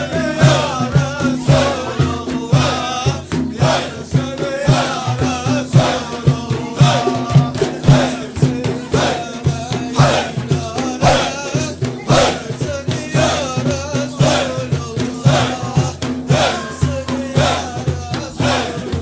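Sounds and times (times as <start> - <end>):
voices chanting rhythmically: 0.0 - 19.0.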